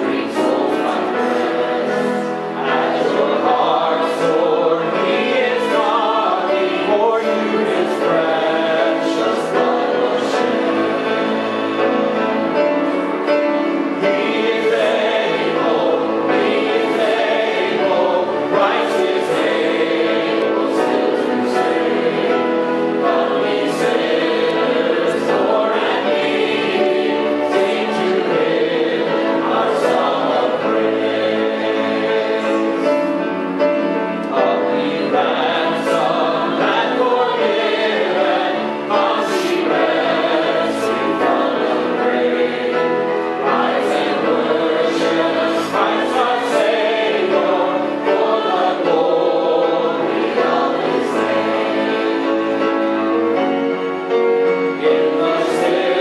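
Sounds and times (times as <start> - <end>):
choir singing: 0.0 - 56.0
instrumental accompaniment: 0.0 - 56.0.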